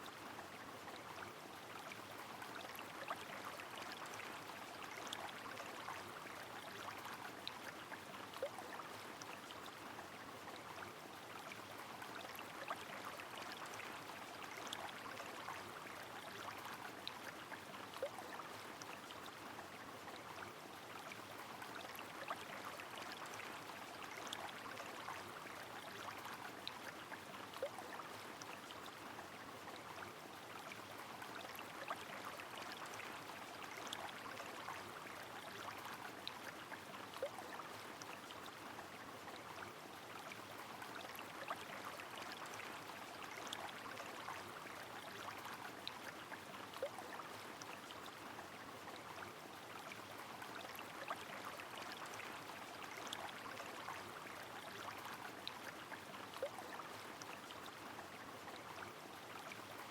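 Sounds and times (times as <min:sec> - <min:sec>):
flowing river: 0:00.0 - 0:59.9.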